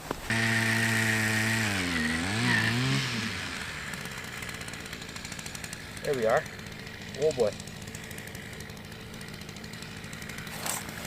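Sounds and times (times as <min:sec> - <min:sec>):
vehicle engine running: 0:00.3 - 0:11.0.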